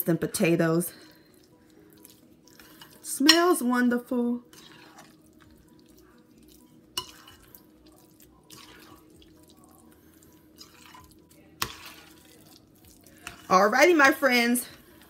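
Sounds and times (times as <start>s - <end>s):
spoon squelching mashed potato: 0.9s - 15.0s.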